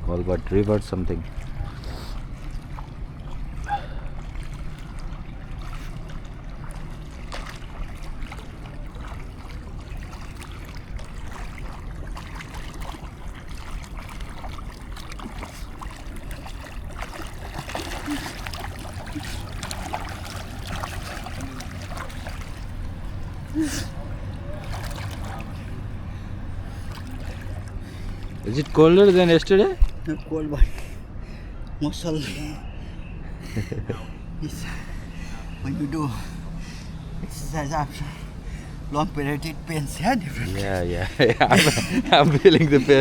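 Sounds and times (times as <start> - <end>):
steady low rumble: 0.0 - 43.0
water sloshing and splashing: 0.0 - 43.0.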